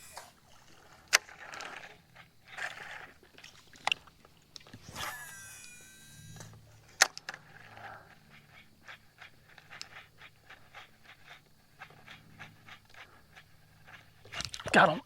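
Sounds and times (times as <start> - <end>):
reel sharp click: 0.0 - 2.8, 3.7 - 14.8
reel cranking ticks: 0.0 - 14.8
fishing reel spool whirring: 0.0 - 14.9
low steady hum: 0.0 - 15.0.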